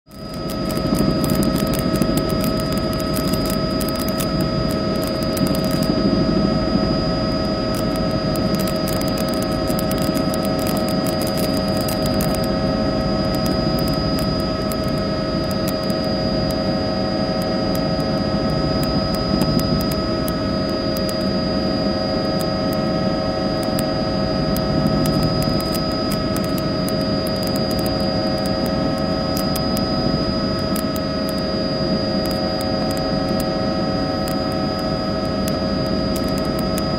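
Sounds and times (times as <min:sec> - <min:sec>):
steady whine tones: 0:00.0 - 0:36.9
aircraft engine drone: 0:00.1 - 0:36.9
faint crackles: 0:00.1 - 0:36.9.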